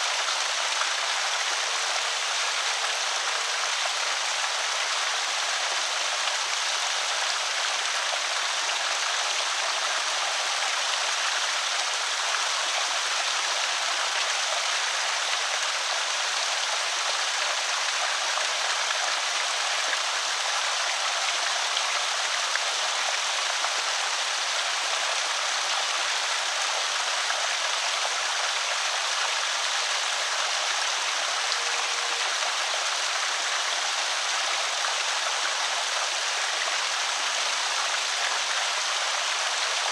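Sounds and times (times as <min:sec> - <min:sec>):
water pouring over spillway: 0:00.0 - 0:39.9.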